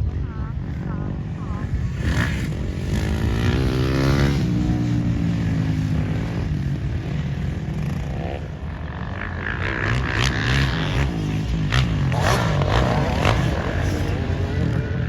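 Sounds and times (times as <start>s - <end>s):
dirt bike engine running hard: 0.0s - 15.0s.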